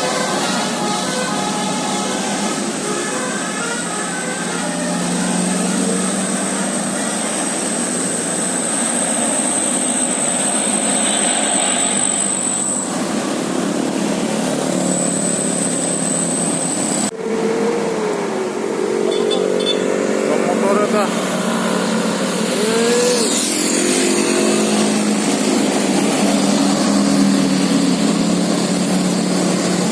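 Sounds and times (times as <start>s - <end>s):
bus engine and road noise: 0.0s - 29.9s.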